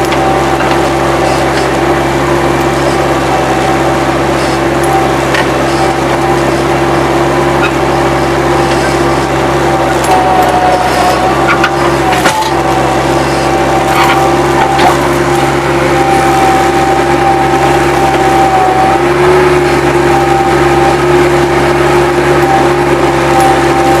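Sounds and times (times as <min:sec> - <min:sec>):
diesel engine running: 0:00.0 - 0:24.0
high whine: 0:00.0 - 0:24.0.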